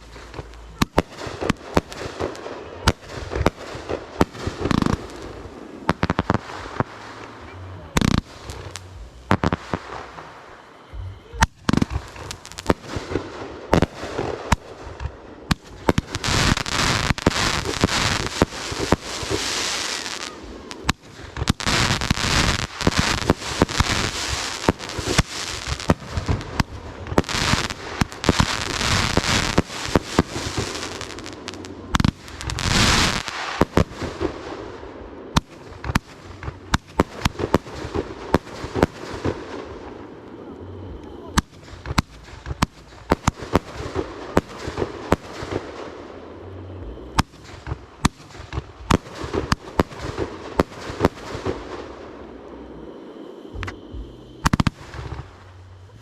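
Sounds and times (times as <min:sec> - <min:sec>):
fireworks banging: 0:00.0 - 0:56.0
fireworks crackling: 0:00.0 - 0:56.0.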